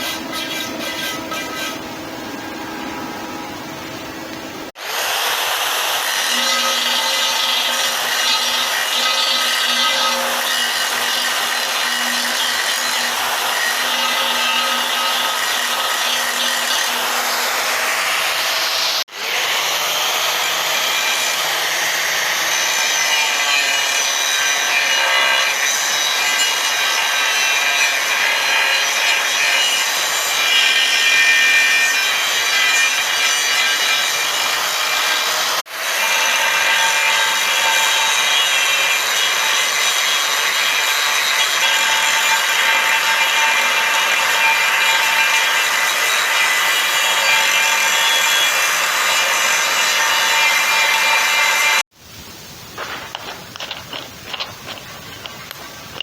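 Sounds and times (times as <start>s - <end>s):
power tool grinding metal: 0.0s - 3.8s, 4.7s - 51.9s.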